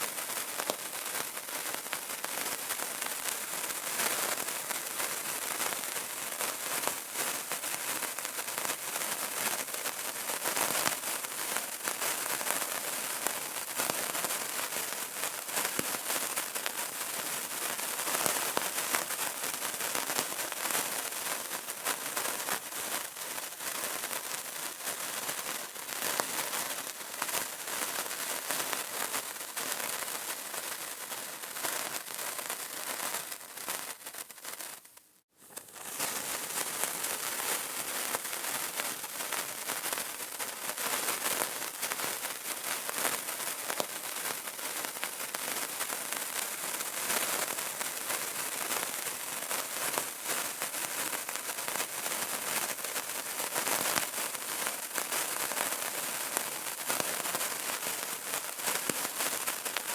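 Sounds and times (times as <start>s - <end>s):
candle crackling: 0.0s - 49.0s, 55.8s - 59.9s.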